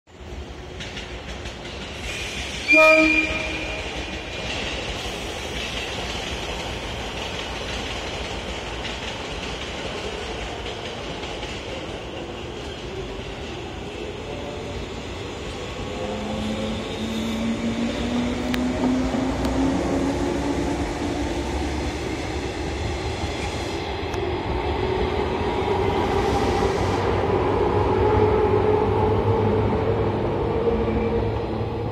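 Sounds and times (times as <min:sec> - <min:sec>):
train wheels on rails: 0:00.2 - 0:31.9.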